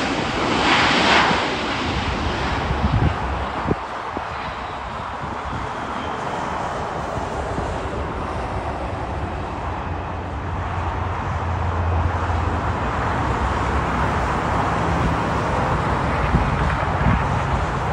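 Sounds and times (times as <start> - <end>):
distant jet engine: 0.0 - 17.9
road traffic: 0.0 - 17.9.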